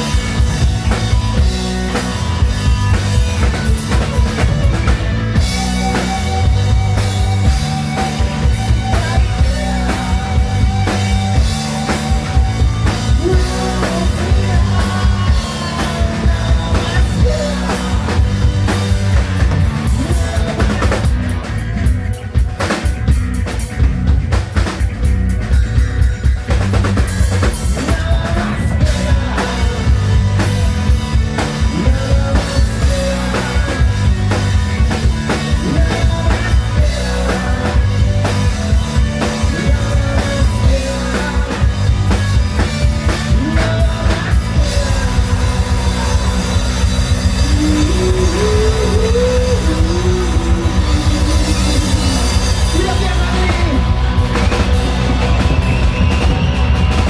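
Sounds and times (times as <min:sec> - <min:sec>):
drum kit: 0:00.0 - 0:57.0
hard rock band playing: 0:00.0 - 0:57.0.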